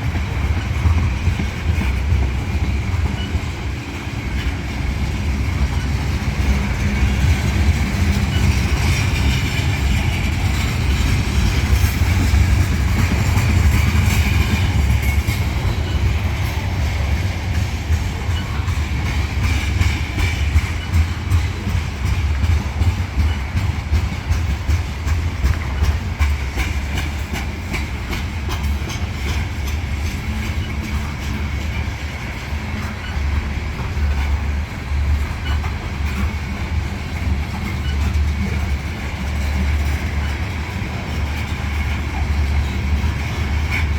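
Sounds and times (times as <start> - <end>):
clicking over rail joints: 0.0 - 43.9
train wheels rumbling on rail: 0.0 - 43.9.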